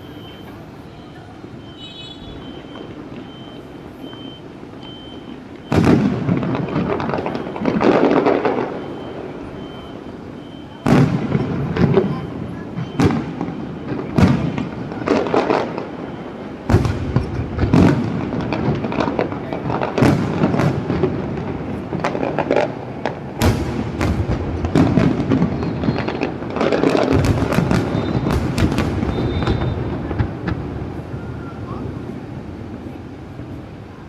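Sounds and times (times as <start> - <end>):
crackling fireworks reports: 0.0 - 34.0
fireworks bangs: 0.0 - 34.0
fireworks booming: 0.0 - 34.0.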